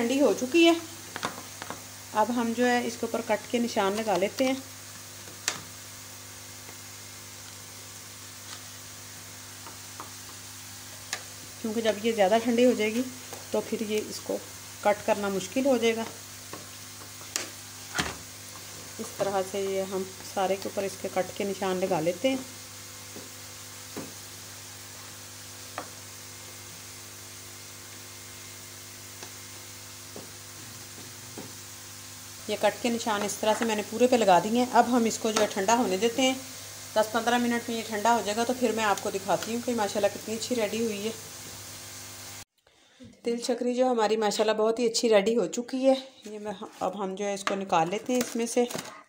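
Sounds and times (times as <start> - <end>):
low electrical hum: 0.0 - 42.4.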